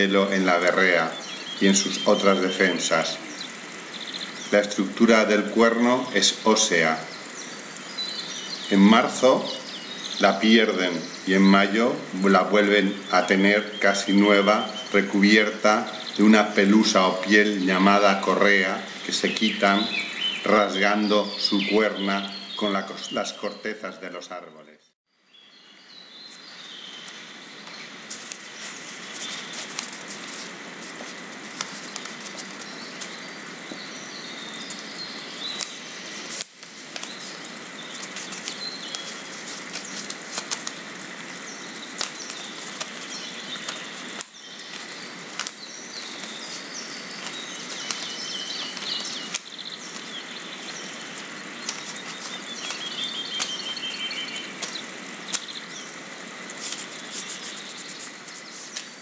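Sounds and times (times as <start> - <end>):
hiss with crackles and clicks: 0.0 - 24.4, 25.8 - 59.0
small birds chirping: 0.0 - 59.0.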